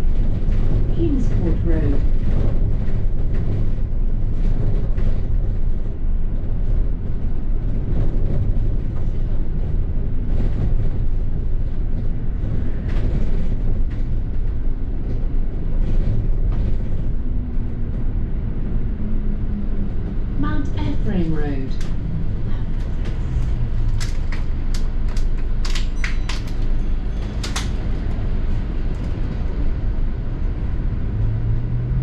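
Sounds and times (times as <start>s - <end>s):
bus engine rumble: 0.0s - 32.0s.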